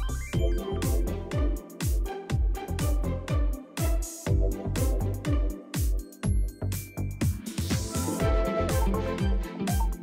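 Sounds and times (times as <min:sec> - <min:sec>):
electronic dance music: 0:00.0 - 0:06.0, 0:07.3 - 0:10.0.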